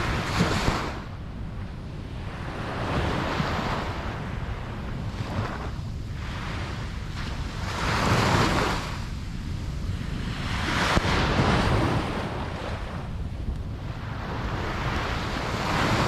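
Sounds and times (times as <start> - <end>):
low surf rumble: 0.0 - 16.0
waves breaking on a beach: 0.0 - 16.0.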